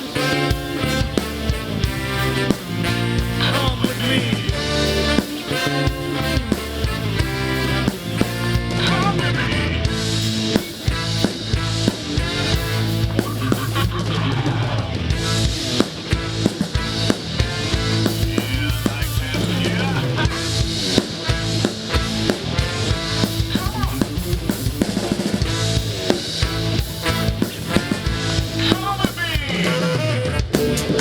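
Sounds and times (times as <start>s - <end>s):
rock music with drums: 0.0s - 31.0s.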